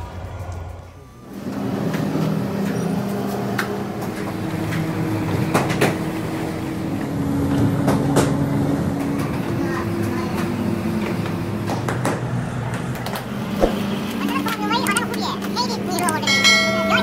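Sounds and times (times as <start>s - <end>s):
machine mechanical hum: 0.0s - 16.1s.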